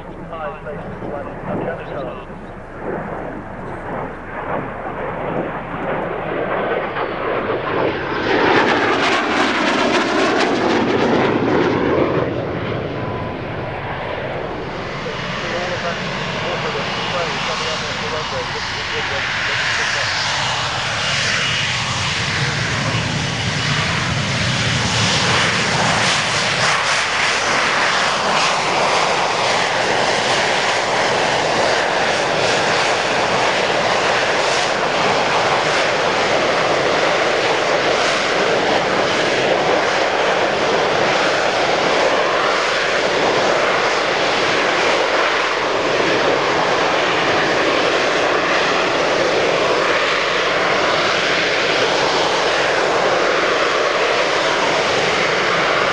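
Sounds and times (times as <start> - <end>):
jet engine roar: 0.0 - 55.9.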